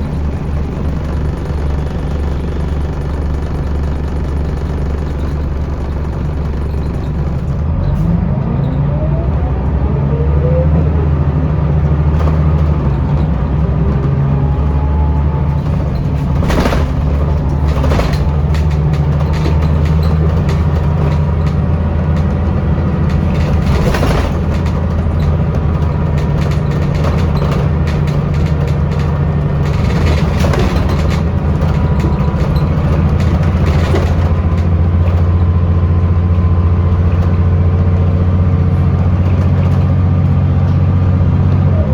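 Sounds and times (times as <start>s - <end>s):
bus body knocks and rattles: 0.0s - 9.6s, 11.0s - 41.9s
bus engine droning: 0.0s - 41.9s
rising gearbox whine: 0.0s - 41.9s.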